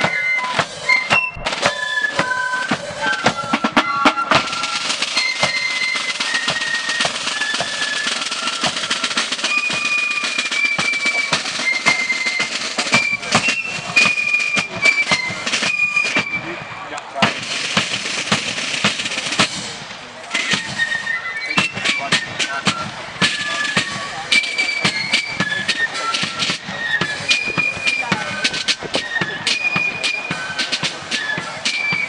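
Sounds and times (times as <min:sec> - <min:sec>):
flutes playing high melody: 0:00.0 - 0:17.3, 0:20.1 - 0:32.0
snare drums rapid beat: 0:00.0 - 0:20.9, 0:21.6 - 0:32.0.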